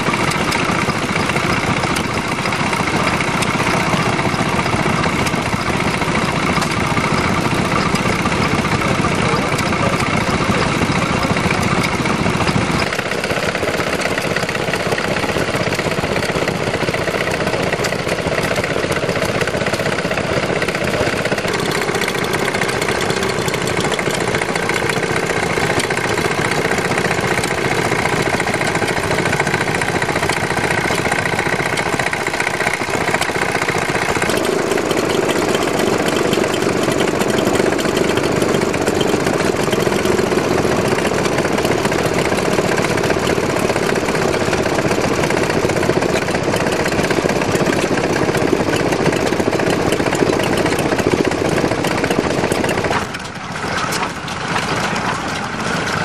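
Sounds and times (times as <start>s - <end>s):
small stationary engines running: 0.0s - 56.0s.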